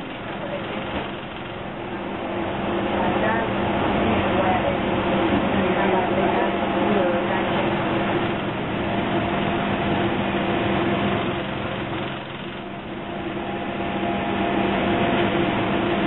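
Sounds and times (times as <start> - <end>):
train equipment humming: 0.0 - 16.0.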